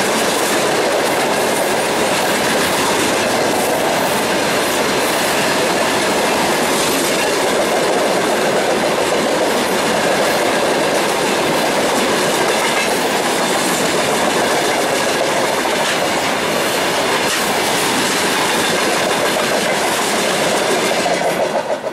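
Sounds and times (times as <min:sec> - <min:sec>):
freight train wagons rumbling past: 0:00.0 - 0:21.9
wheels clicking over rail joints: 0:00.0 - 0:21.9.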